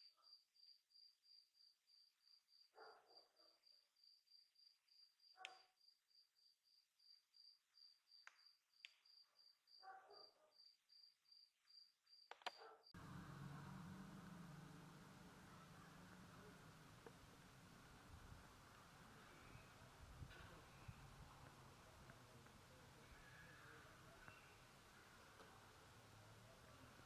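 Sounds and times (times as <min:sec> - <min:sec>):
cricket chirping: 0:03.4 - 0:27.0.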